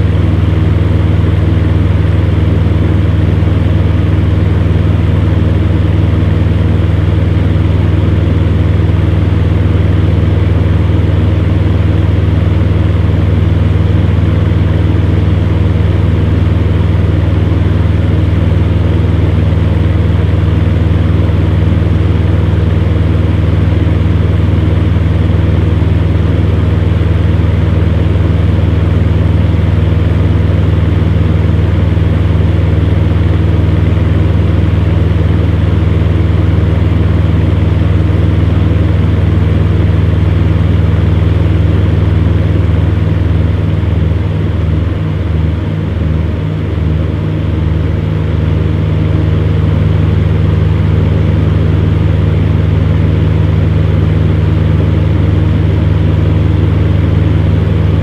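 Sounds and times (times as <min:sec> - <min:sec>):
fan heater humming: 0:00.0 - 0:58.0.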